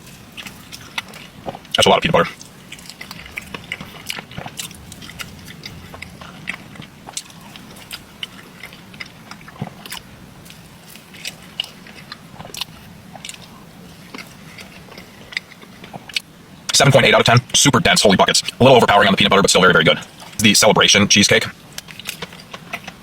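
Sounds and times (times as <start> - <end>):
person chewing: 0.0 - 18.9, 21.6 - 23.0.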